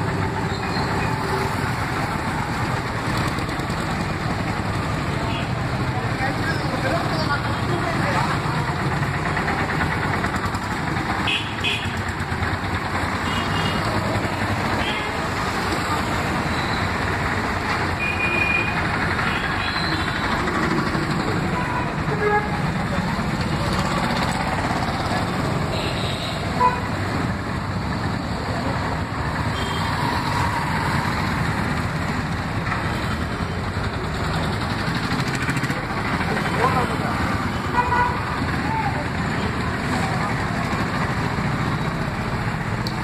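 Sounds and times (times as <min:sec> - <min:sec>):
motorcycle engines: 0:00.0 - 0:43.0
passing vehicles: 0:00.0 - 0:43.0.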